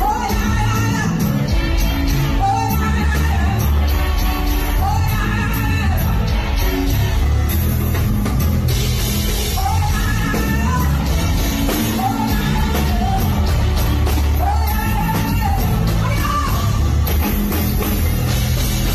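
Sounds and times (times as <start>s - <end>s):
live band music: 0.0s - 18.9s.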